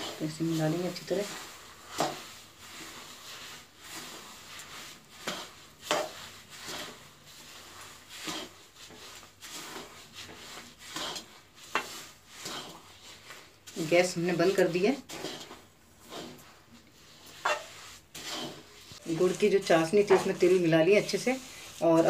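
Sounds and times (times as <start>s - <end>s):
metal spatula scraping a pan: 0.0s - 22.0s.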